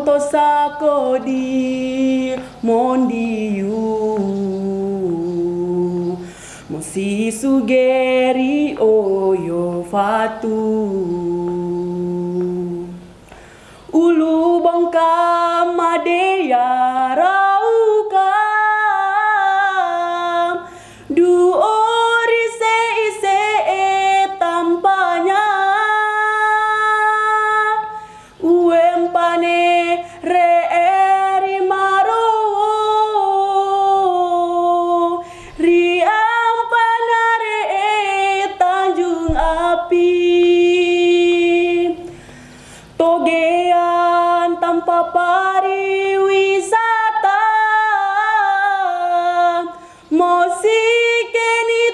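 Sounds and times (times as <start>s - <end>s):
woman singing unaccompanied: 0.0s - 42.2s, 42.9s - 51.9s.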